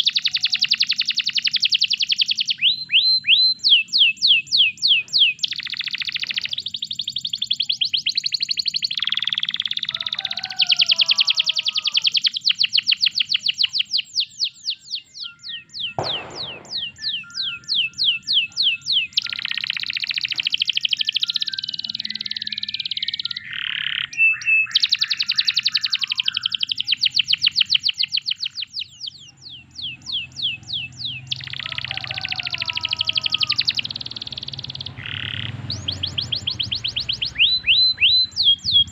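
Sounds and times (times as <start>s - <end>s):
canary singing fast trills: 0.0s - 38.9s.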